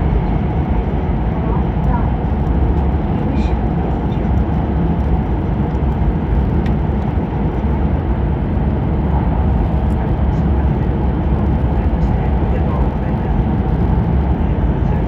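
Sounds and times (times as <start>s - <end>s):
train cabin deep rumble: 0.0s - 15.0s.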